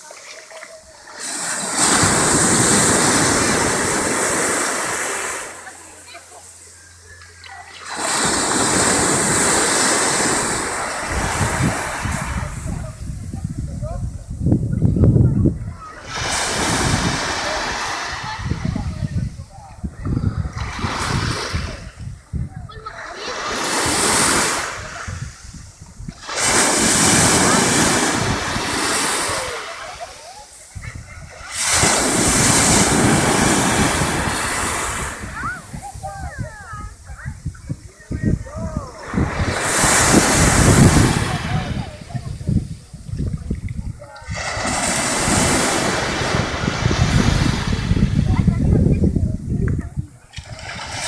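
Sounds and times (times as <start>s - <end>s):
wave breaking on shore: 0.0s - 6.7s, 7.4s - 14.2s, 15.5s - 51.0s
wind rumble on microphone: 8.0s - 29.6s, 30.7s - 51.0s.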